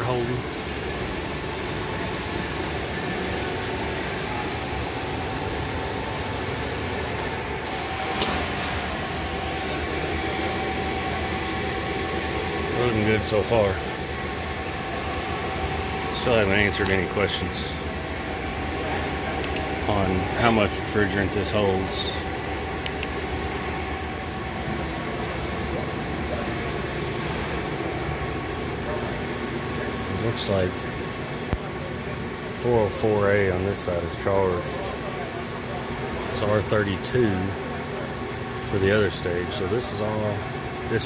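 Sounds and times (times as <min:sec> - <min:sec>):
machinery drone: 0:00.0 - 0:41.0.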